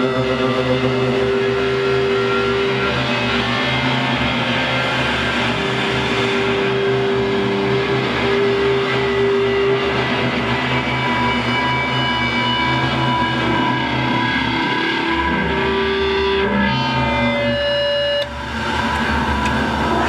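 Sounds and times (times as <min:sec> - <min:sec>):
electric guitar held notes: 0:00.0 - 0:20.0
synthesizer held notes: 0:00.0 - 0:20.0.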